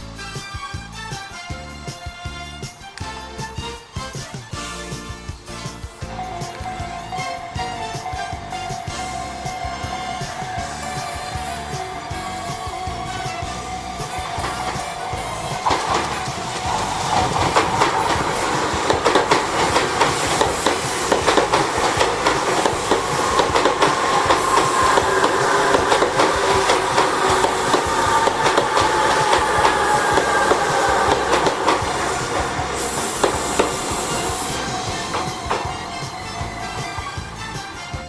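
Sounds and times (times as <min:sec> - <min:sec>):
train wheels clacking over rail joints: 0:06.0 - 0:38.0.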